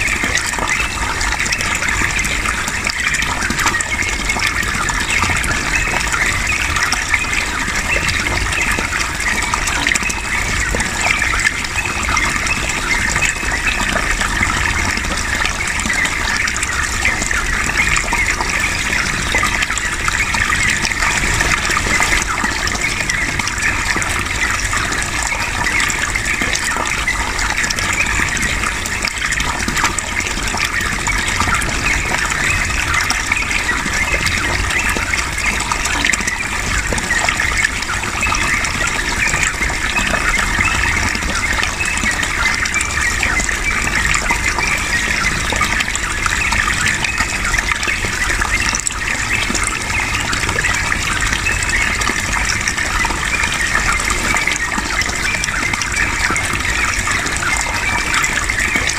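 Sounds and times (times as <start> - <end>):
water gushing: 0.0 - 58.9.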